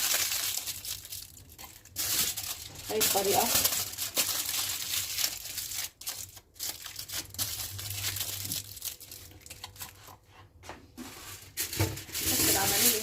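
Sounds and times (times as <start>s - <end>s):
aluminium foil crinkling: 0.0s - 10.3s, 11.1s - 13.0s.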